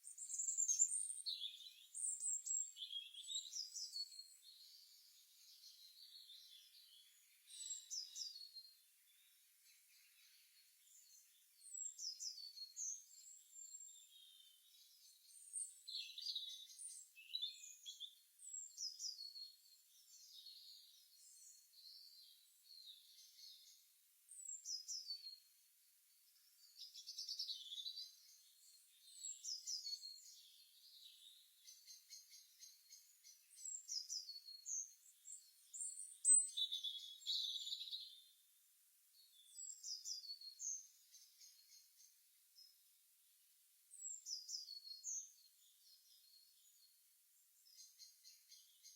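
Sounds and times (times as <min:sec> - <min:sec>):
faint songbirds chirping: 0:00.0 - 0:48.9.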